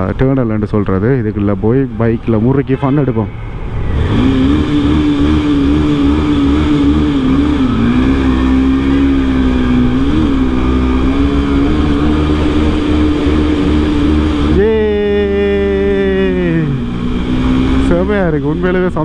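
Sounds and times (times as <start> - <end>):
motorcycle engine revving in tunnel: 3.6 - 19.0.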